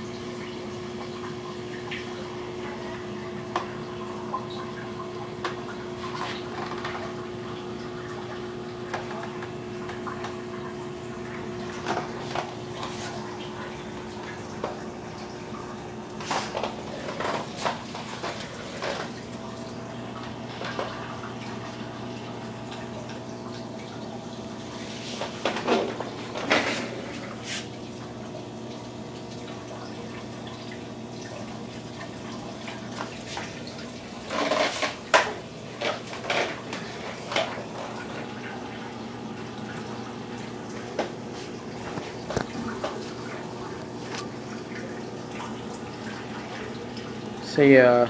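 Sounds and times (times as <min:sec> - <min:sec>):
pump hum: 0:00.0 - 0:48.0
trickling dripping water: 0:00.0 - 0:48.0.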